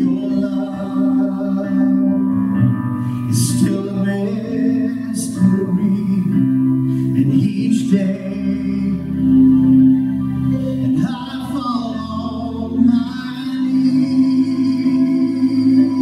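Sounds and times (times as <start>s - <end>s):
guitar accompaniment: 0.0s - 16.0s
man singing into a microphone: 0.0s - 16.0s.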